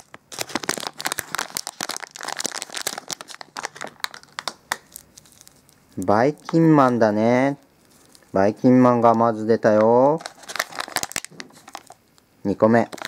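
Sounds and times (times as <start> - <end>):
plastic wrapper crinkling: 0.0 - 8.4, 10.1 - 12.2, 12.8 - 13.0.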